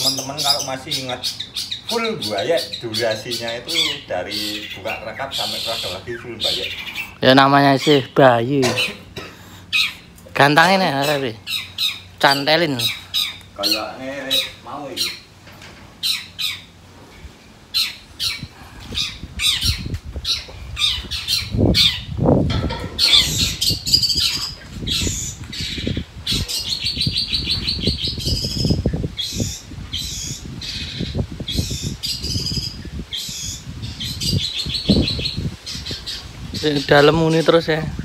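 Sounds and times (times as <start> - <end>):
bird calling and chattering trills: 0.0 - 15.4, 16.0 - 16.8, 17.4 - 38.0.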